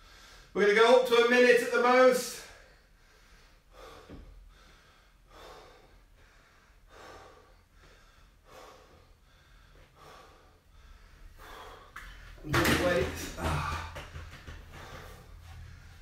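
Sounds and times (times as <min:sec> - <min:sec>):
man breathing heavily: 0:00.0 - 0:00.6, 0:02.4 - 0:16.0.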